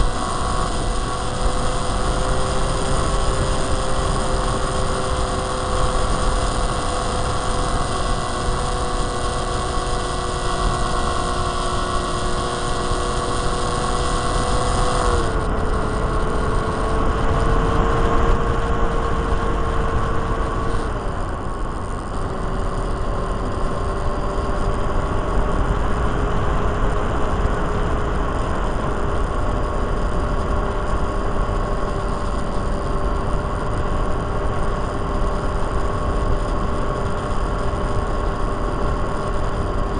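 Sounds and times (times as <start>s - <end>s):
electric motor and propeller whine: 0.0s - 39.9s
wind rush on microphone: 0.0s - 39.9s.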